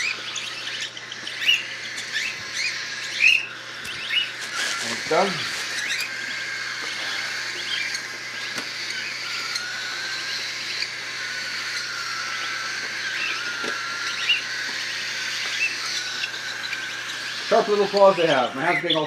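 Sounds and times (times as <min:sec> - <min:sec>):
baby cockatiels chirping: 0:00.0 - 0:19.0
continuous wavering bird call: 0:00.0 - 0:19.0.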